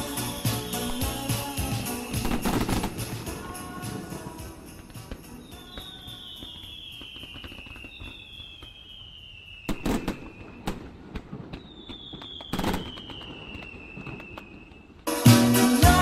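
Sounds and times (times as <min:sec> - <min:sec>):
loud firework bangs: 0:00.0 - 0:15.5
whistling rockets: 0:00.0 - 0:15.8
fireworks crackling: 0:00.0 - 0:16.0.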